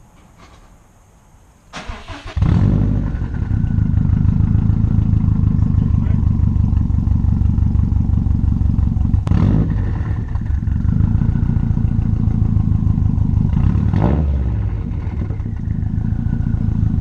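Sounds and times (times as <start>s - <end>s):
car engine running loud: 2.4s - 17.0s.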